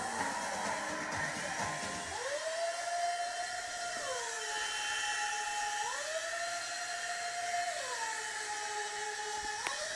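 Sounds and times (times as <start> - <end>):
toy helicopter motor whining: 0.0 - 9.9.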